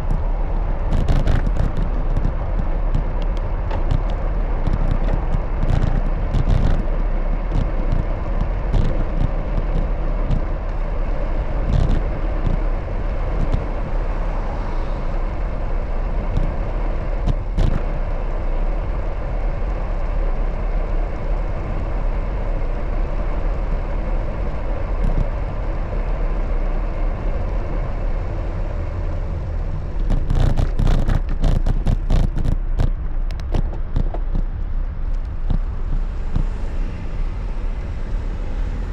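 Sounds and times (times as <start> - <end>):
city traffic and road noise: 0.0 - 38.9.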